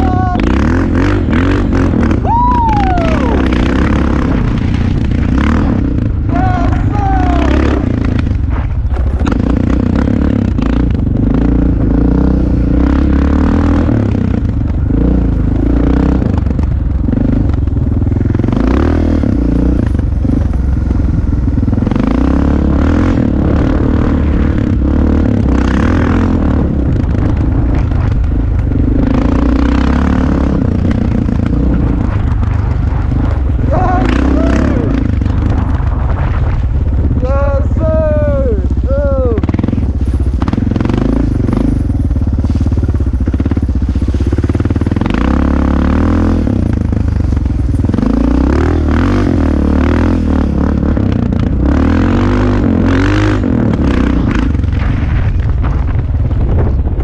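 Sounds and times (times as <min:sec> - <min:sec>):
dirt bike engine revving: 0:00.0 - 0:55.4.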